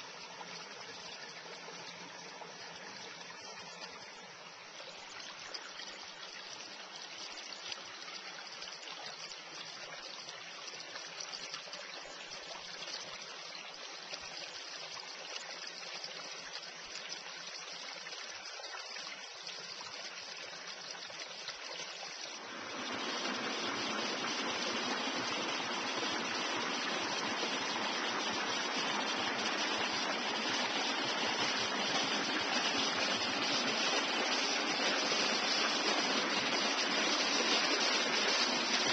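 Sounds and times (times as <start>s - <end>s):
creek flowing over stones: 0.0s - 38.9s.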